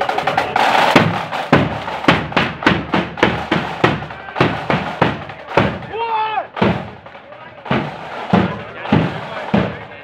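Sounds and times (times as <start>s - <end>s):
marching drum beat: 0.0s - 10.0s.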